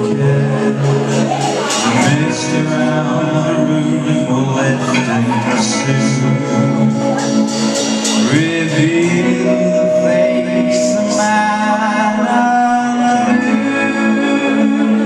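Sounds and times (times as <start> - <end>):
drum kit: 0.0 - 15.0
electric guitar: 0.0 - 15.0
man singing: 0.0 - 15.0.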